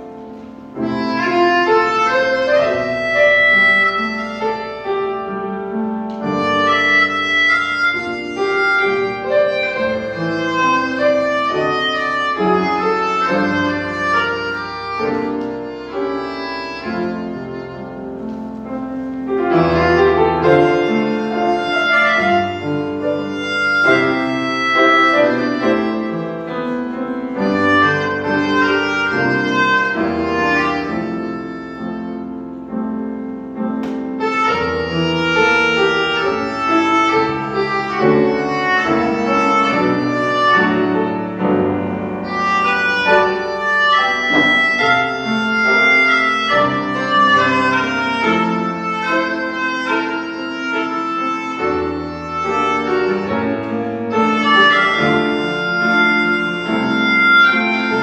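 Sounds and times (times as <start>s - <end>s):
accordion holding long notes: 0.0s - 58.0s
piano: 0.0s - 58.0s.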